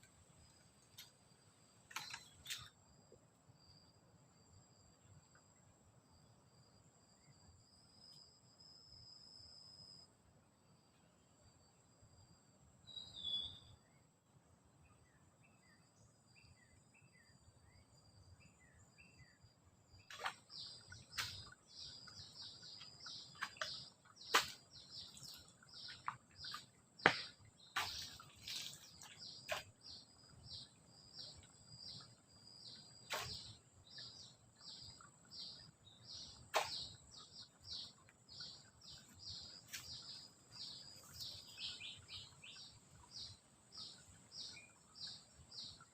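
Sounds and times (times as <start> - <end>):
faint high insect drone: 0.0 - 45.9.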